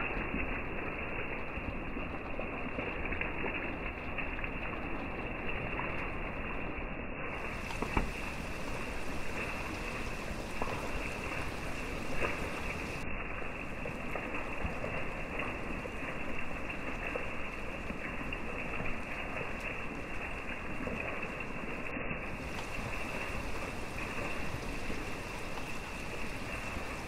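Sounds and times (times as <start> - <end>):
rain on foliage: 0.0 - 27.0.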